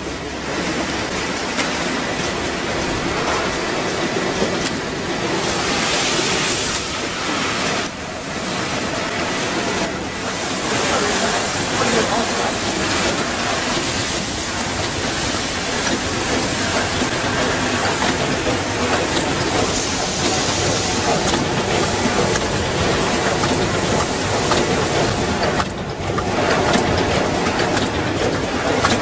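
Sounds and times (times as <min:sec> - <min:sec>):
printing machine hiss and rattle: 0:00.0 - 0:29.0.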